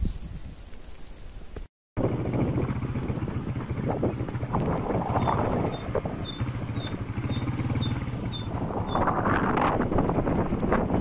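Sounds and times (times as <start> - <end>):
wind buffeting microphone: 2.0 - 11.0.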